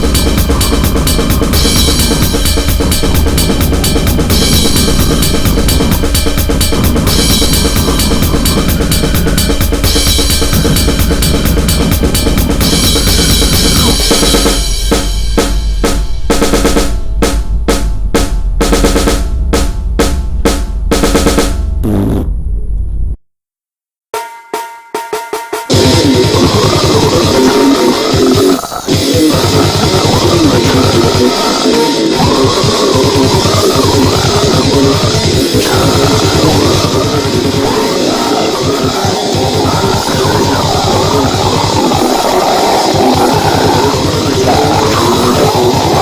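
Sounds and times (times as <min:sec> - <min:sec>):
distorted goregrind music: 0:00.0 - 0:23.0, 0:25.7 - 0:46.0.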